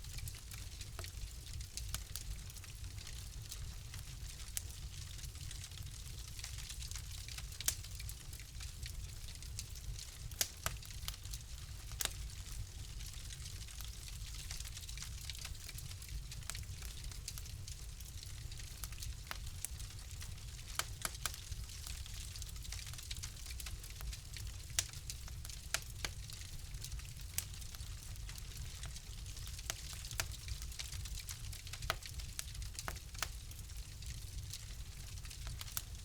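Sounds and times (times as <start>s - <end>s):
wood fire burning: 0.0s - 36.0s.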